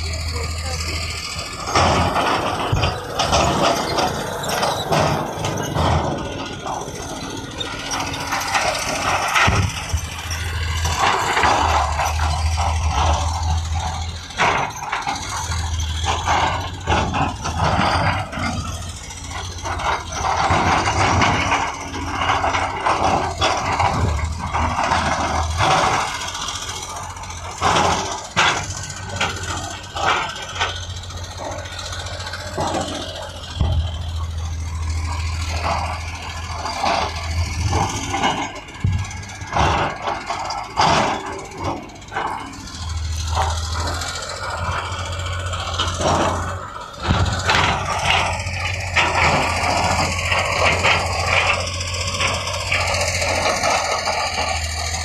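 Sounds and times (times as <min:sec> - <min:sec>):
deep machinery engine running: 0:00.0 - 0:55.0
metal clanks and rattles: 0:00.0 - 0:55.0.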